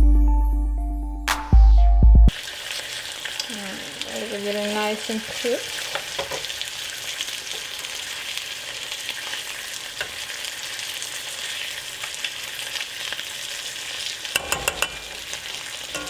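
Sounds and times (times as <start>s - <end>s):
meat sizzling in a wok: 2.3s - 16.0s.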